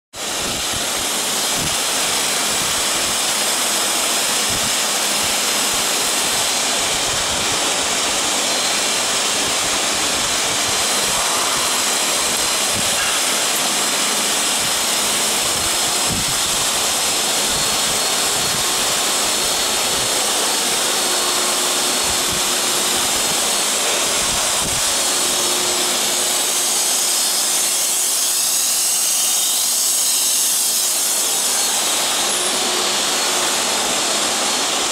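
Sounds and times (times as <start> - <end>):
milling machine hiss: 0.2 - 34.9.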